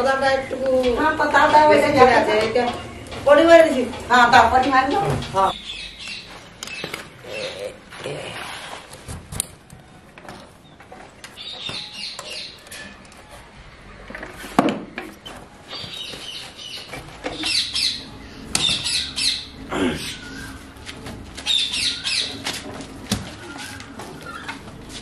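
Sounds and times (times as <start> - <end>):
birds chirping: 0.1 - 7.9, 9.8 - 14.1, 15.1 - 25.0.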